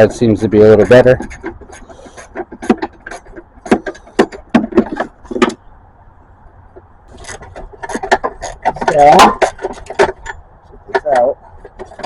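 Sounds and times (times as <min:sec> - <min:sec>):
hand tools clicking on metal: 0:00.0 - 0:05.6, 0:06.8 - 0:12.0.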